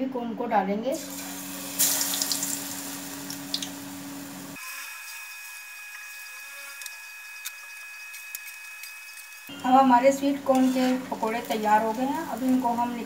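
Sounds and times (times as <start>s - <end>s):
food sizzling in hot oil: 1.0s - 13.0s.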